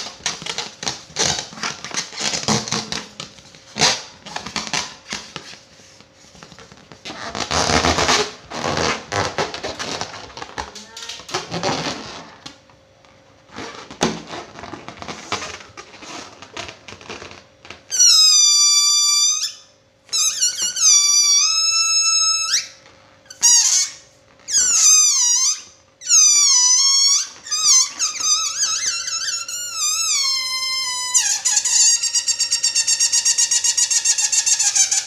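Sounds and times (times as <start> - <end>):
balloon squealing: 0.0 - 5.4, 6.7 - 12.4, 13.5 - 35.0.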